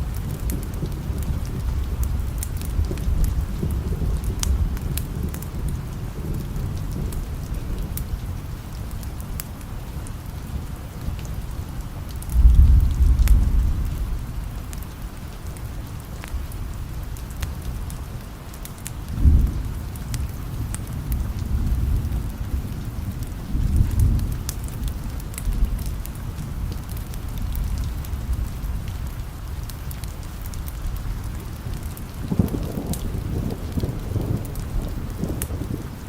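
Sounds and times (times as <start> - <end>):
distant thunder rumble: 0.0 - 11.5, 12.2 - 15.1, 19.0 - 36.0
steady rain: 0.0 - 36.0.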